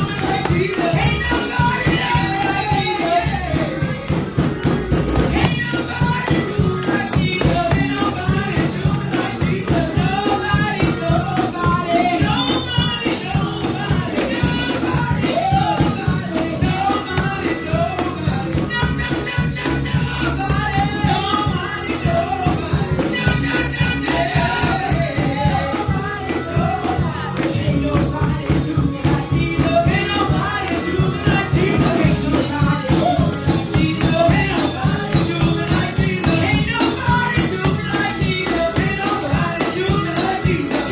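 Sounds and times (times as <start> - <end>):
driving beat: 0.0 - 40.9
gospel singing voices: 0.0 - 40.9
tambourine shaking: 0.0 - 40.9.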